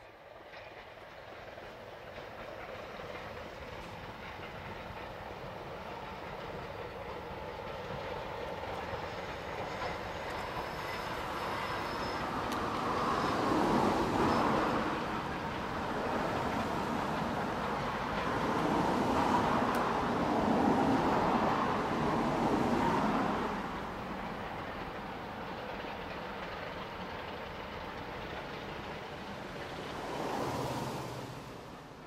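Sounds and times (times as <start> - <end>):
diesel train passing: 0.0 - 32.0.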